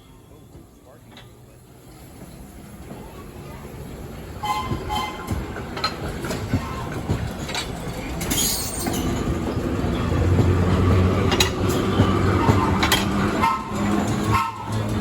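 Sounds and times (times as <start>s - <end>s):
train cars rumbling past: 0.0s - 15.0s
wheels clacking over rail joints: 0.2s - 15.0s.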